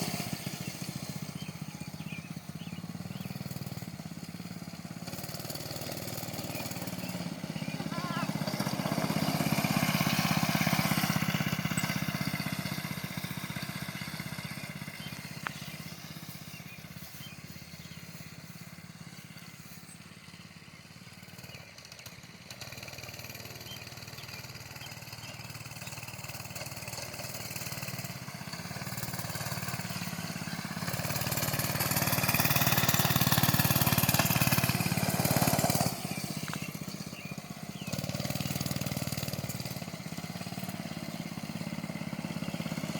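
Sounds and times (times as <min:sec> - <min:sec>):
mini bike engine running: 0:00.0 - 0:42.9.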